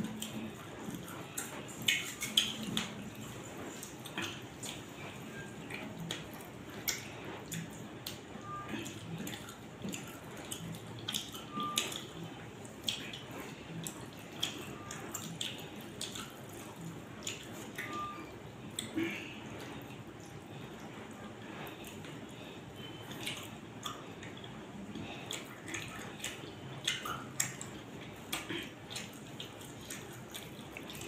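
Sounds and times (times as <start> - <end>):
chewing: 0.0 - 31.0.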